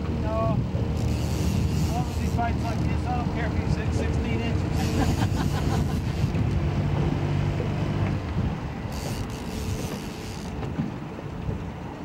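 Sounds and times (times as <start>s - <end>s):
motorboat engine humming: 0.0s - 12.0s
wind on microphone: 0.0s - 12.0s.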